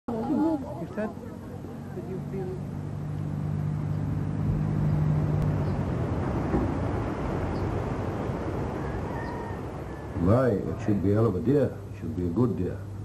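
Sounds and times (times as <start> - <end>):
engine hum: 0.1 - 13.0.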